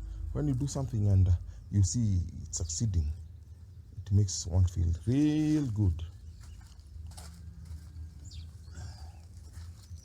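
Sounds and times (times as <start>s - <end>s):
faint bird chirps: 0.0s - 10.0s
steady low hum: 0.0s - 10.0s.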